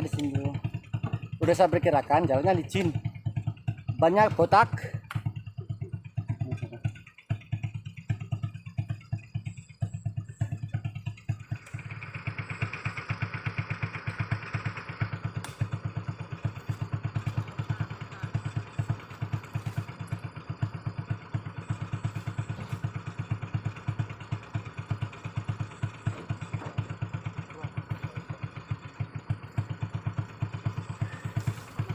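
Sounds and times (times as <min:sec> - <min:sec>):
motorcycle engine chugging: 0:00.0 - 0:31.9.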